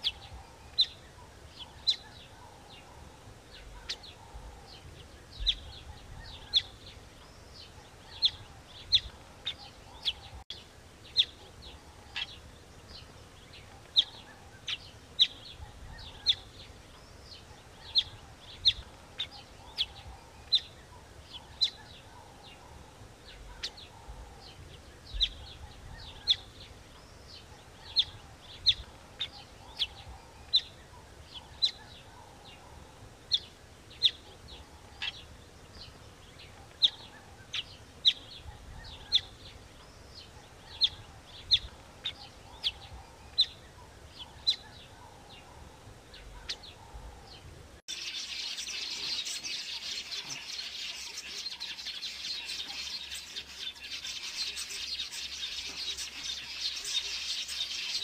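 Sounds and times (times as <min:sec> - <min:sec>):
faint outdoor background noise: 0:00.0 - 0:58.0
small bird chirping: 0:00.0 - 0:58.0.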